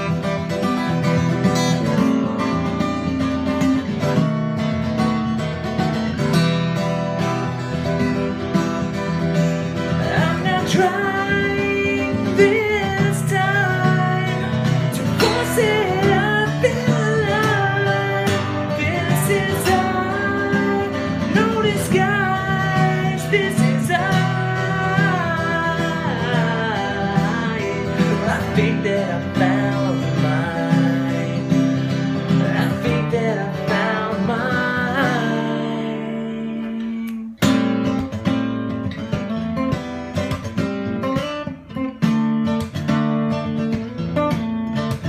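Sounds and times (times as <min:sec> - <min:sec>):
country song with acoustic guitar: 0:00.0 - 0:45.0.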